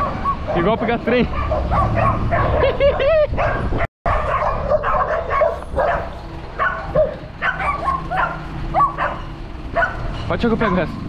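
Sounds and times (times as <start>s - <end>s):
dog barking and yipping: 0.0s - 11.0s.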